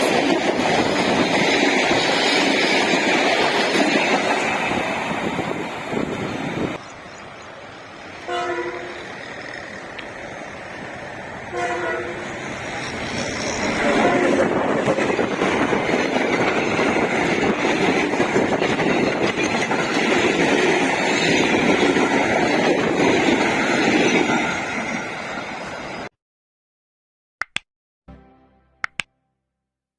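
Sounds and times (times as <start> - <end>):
train rumbling past: 0.0 - 26.1.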